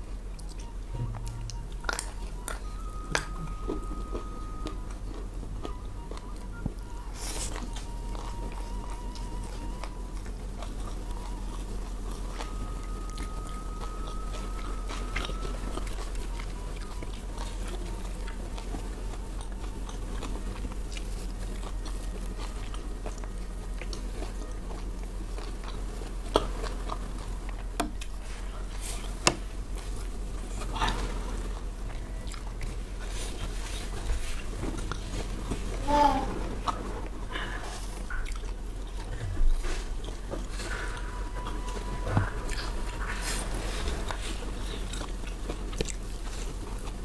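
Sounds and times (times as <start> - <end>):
person chewing food: 0.0 - 47.0
steady low hum: 0.0 - 47.0.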